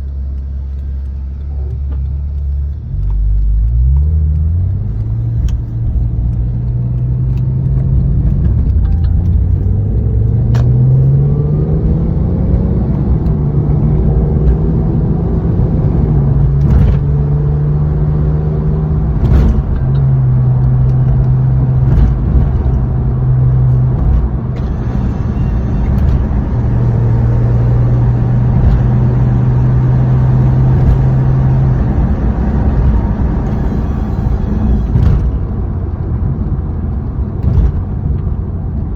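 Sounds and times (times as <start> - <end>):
car engine while driving: 0.0 - 38.9.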